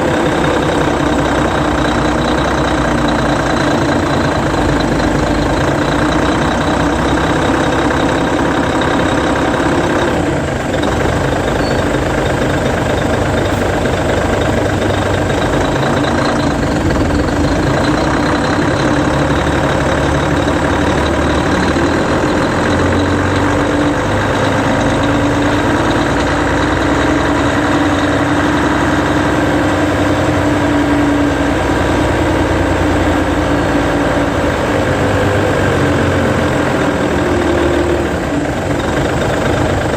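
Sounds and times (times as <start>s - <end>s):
diesel engine running at low revs: 0.0s - 39.9s.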